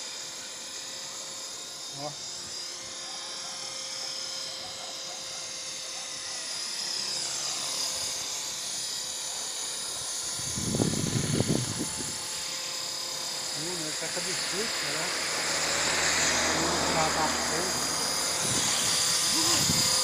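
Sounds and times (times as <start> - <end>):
model helicopter whine: 0.0 - 20.0.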